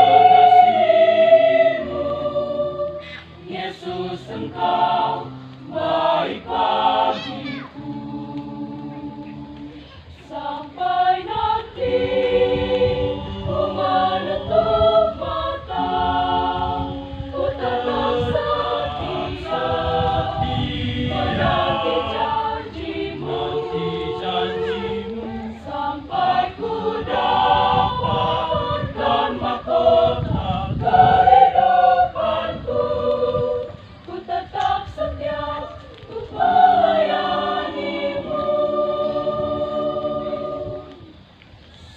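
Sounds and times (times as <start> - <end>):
choir singing a hymn: 0.0 - 41.5.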